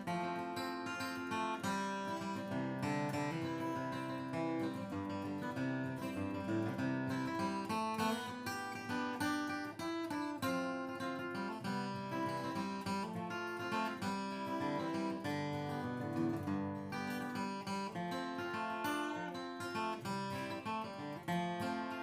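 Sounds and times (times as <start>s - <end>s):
acoustic guitar flatpicking: 0.0s - 22.0s.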